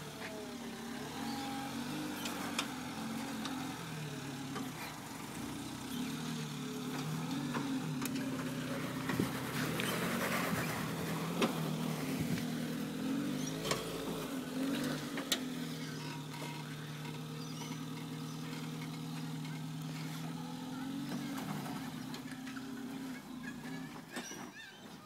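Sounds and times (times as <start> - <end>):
off-road engine at low revs: 0.0 - 25.0.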